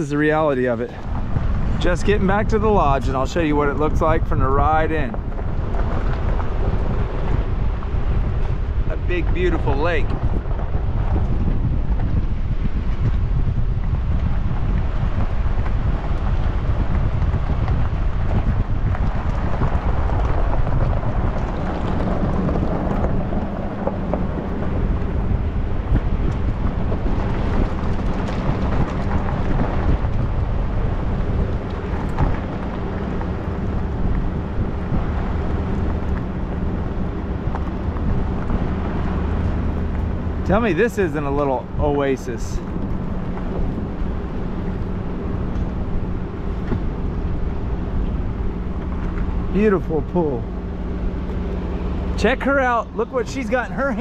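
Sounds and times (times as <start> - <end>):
vehicle engine humming: 0.0 - 54.0
wind buffeting microphone: 0.0 - 54.0.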